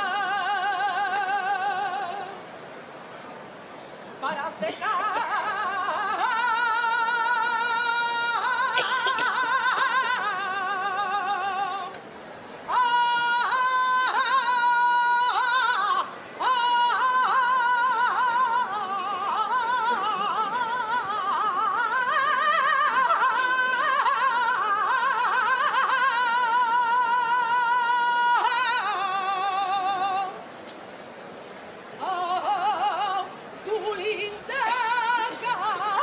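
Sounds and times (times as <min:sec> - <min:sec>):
solo voice singing: 0:00.0 - 0:02.4, 0:04.2 - 0:12.0, 0:12.7 - 0:30.5, 0:32.0 - 0:36.0.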